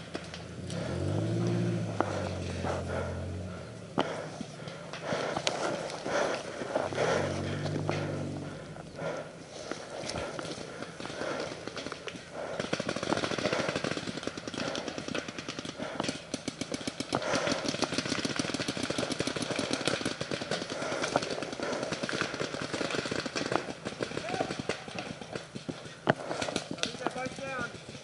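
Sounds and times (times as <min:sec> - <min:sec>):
paintball markers firing: 0:04.0 - 0:28.0.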